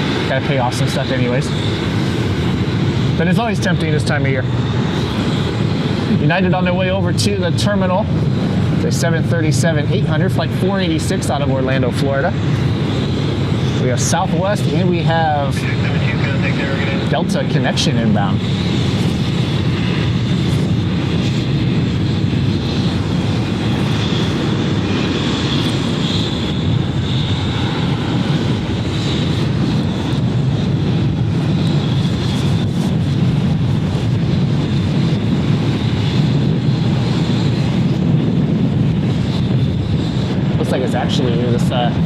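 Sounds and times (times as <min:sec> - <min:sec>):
faint high engine whine: 0:00.0 - 0:42.0
jet engines rumbling: 0:00.0 - 0:42.0.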